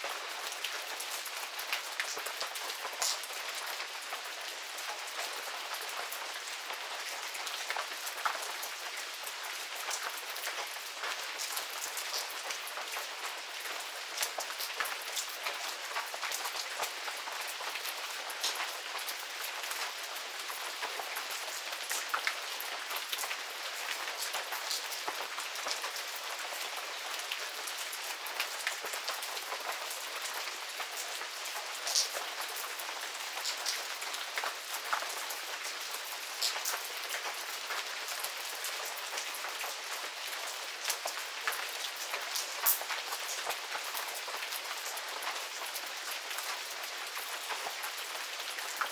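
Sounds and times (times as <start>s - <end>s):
rain falling: 0.0s - 48.9s
raindrops pattering on surfaces: 0.0s - 48.9s.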